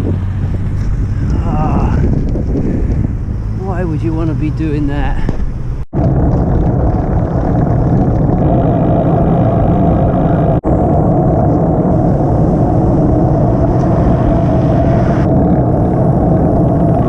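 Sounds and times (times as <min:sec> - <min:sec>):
low road rumble: 0:00.0 - 0:17.0
wind buffeting microphone: 0:00.0 - 0:17.0.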